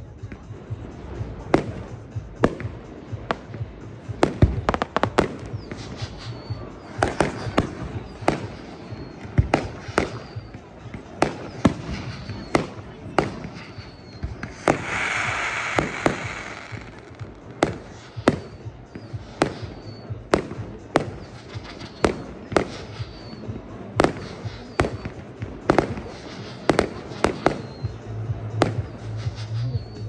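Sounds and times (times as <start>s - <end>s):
fireworks bangs: 1.1s - 30.0s
loud hissing crackle: 3.0s - 27.8s, 28.6s - 30.0s.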